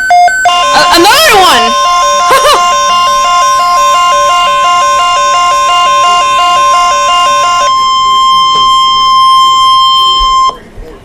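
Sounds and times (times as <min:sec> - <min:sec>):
steady warning tone: 0:00.4 - 0:10.7
two-note electronic warble: 0:00.5 - 0:10.6.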